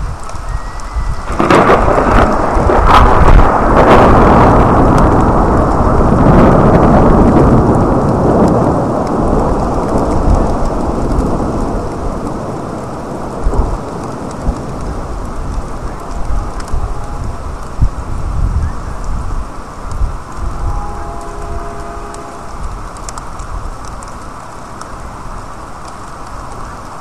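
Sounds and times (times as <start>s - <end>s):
rain falling: 0.0s - 27.0s
thunder cracking and rumbling: 0.0s - 27.0s.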